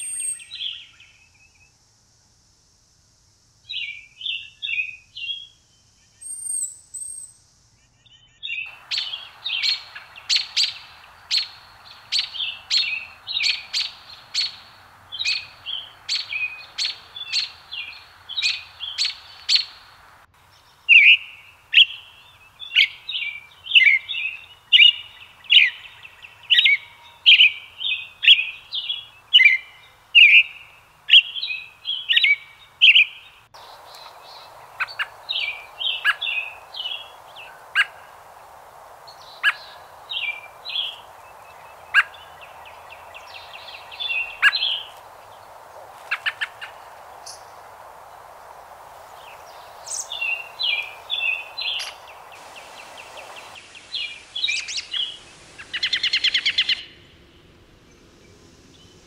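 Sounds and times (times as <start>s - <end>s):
robin singing: 3.7s - 57.2s.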